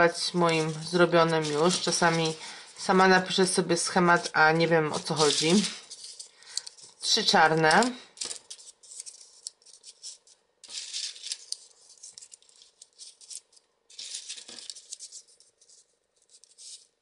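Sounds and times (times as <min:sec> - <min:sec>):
paper rustling and scraping: 0:00.0 - 0:17.0.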